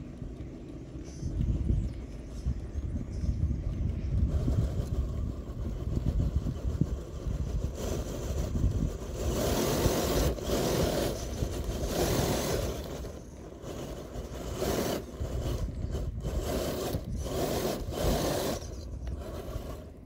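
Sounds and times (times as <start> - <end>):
tyres scrabbling on loose dirt: 0.0 - 20.0.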